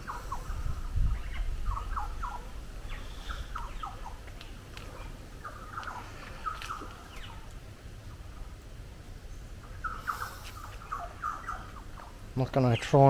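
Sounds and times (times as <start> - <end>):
low rumble on microphone: 0.0 - 12.4
birds chirping: 0.0 - 13.0.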